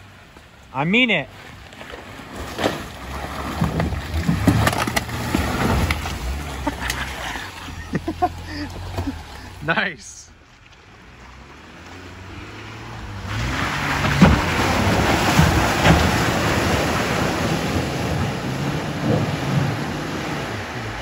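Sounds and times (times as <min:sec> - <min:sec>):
mud and water splashing: 0:00.0 - 0:21.0
pickup truck engine droning: 0:01.4 - 0:21.0.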